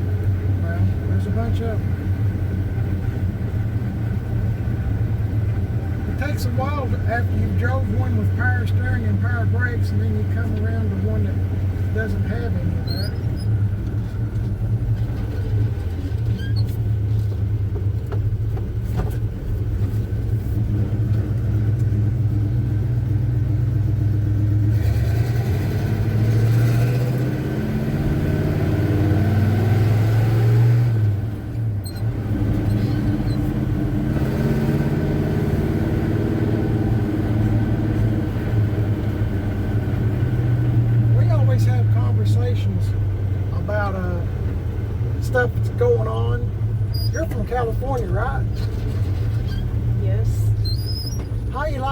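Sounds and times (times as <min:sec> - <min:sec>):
truck engine running: 0:00.0 - 0:51.9.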